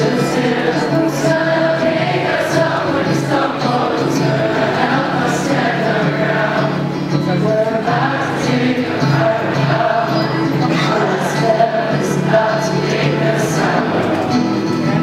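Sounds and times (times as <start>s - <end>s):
large choir singing: 0.0s - 15.0s.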